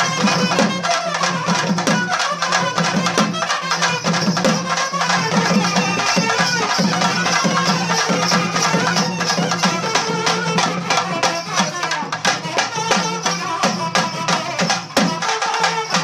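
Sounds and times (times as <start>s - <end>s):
fast hand-drumming: 0.0s - 16.0s.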